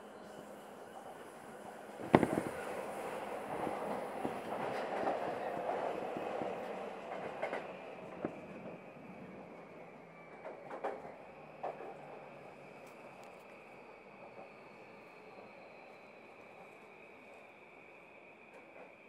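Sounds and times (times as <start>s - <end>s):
train wheels rolling on rails: 0.3s - 19.0s.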